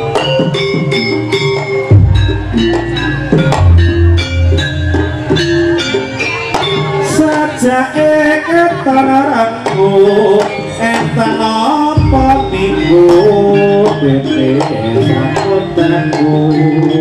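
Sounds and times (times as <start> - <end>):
wavering sliding melody: 0.0 - 7.3, 10.1 - 17.0
struck metal percussion: 0.0 - 8.0, 9.4 - 17.0.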